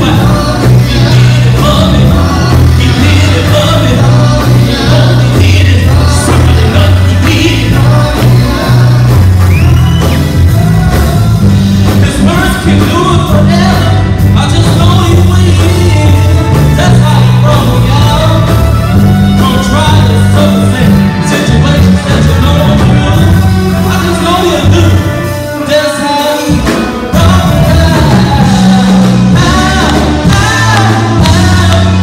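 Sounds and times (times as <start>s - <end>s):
gospel music through loudspeakers: 0.0s - 32.0s
man singing lead vocal: 0.0s - 32.0s.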